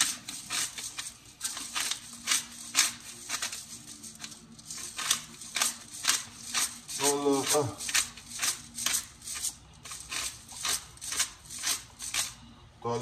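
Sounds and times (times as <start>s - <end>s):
pepper grinder crunching: 0.0s - 12.4s.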